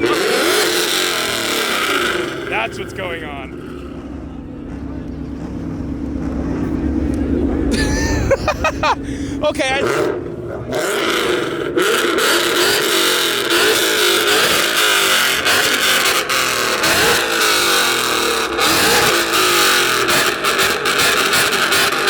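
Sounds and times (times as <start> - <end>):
car engine revving hard: 0.0 - 22.0.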